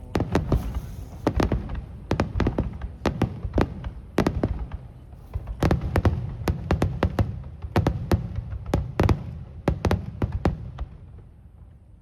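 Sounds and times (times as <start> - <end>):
fireworks cracking and banging: 0.0 - 11.6.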